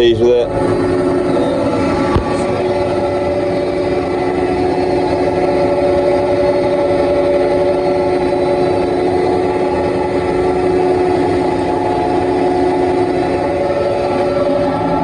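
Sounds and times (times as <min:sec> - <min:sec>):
steady whine: 0:00.0 - 0:15.0
tractor engine droning under load: 0:00.0 - 0:15.0.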